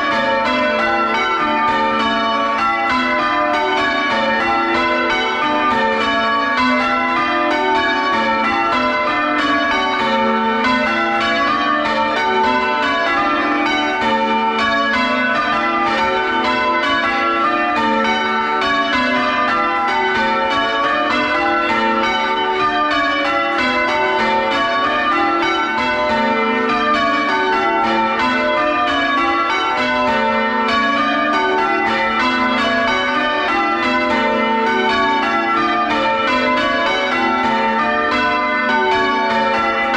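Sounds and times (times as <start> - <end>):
church bells ringing changes: 0.0 - 39.9.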